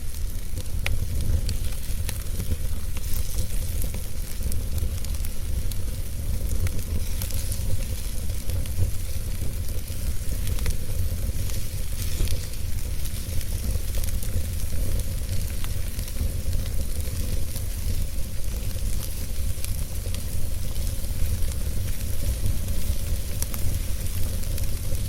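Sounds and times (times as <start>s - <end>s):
burning wood crackling and popping: 0.0s - 25.0s
wood fire burning: 0.0s - 25.0s.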